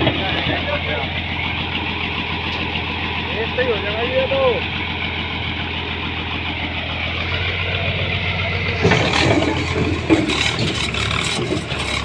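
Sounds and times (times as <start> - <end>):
construction machine diesel engine: 0.0 - 12.0.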